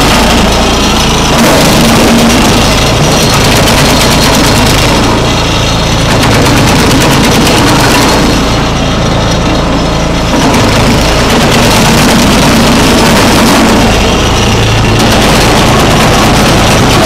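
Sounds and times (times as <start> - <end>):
rapid clatter of wood chopping: 0.0 - 8.7, 9.3 - 17.0
small gasoline engine under load: 0.0 - 17.0.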